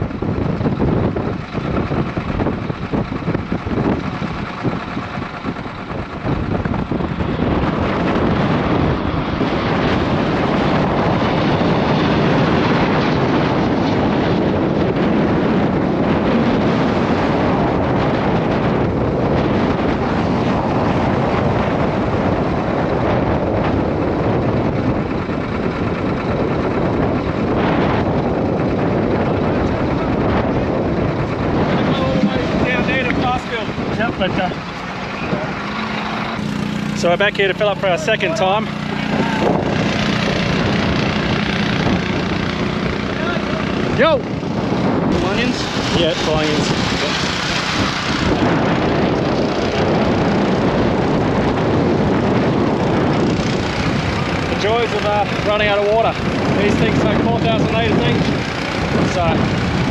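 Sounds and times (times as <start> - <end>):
air tanker engines flying low: 0.0 - 59.9
strong wind on microphone: 0.0 - 59.9.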